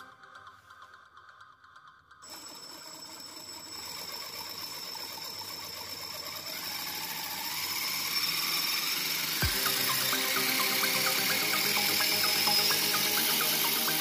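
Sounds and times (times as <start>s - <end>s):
toy car motor and gear whir: 2.2s - 14.0s.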